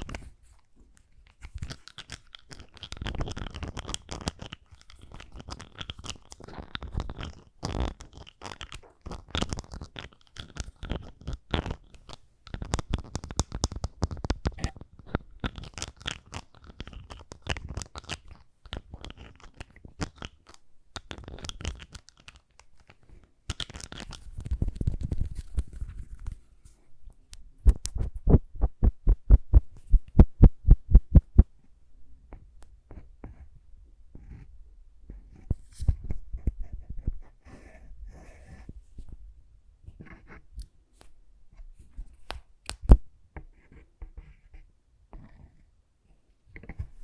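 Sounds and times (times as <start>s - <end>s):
soft clicks and rubs: 0.0s - 30.3s, 35.1s - 39.2s, 39.9s - 47.0s.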